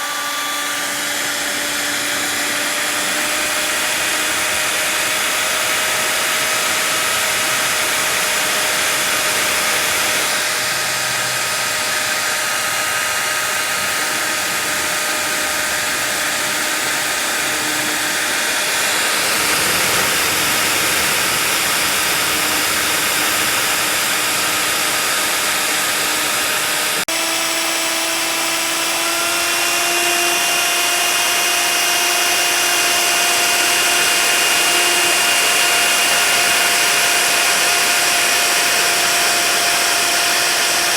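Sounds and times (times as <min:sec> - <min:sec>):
router spindle milling plastic: 0:00.0 - 0:40.9.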